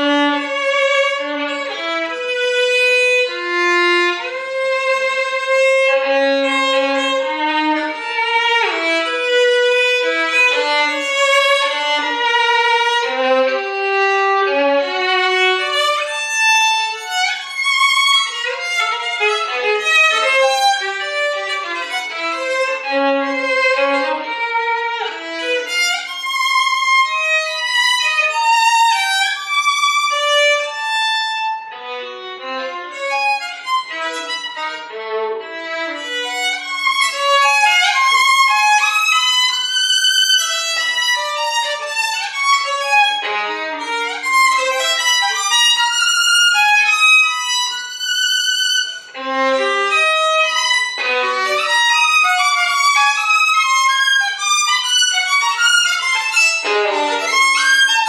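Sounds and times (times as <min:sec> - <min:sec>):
solo violin playing short notes: 0:00.0 - 0:58.0.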